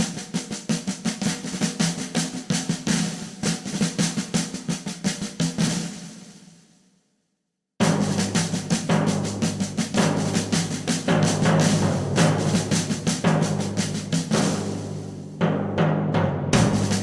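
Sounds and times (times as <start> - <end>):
music with busy drum beat: 0.0 - 6.6, 7.8 - 17.0.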